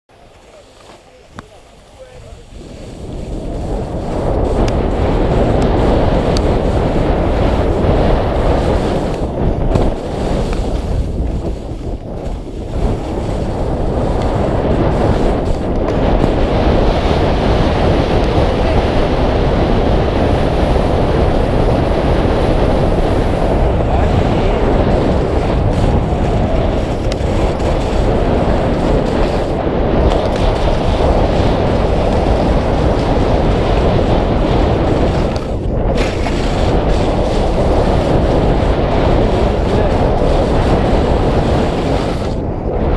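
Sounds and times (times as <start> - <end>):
sliding over snow rumble: 0.1 - 42.9
wind noise on microphone: 0.1 - 42.9.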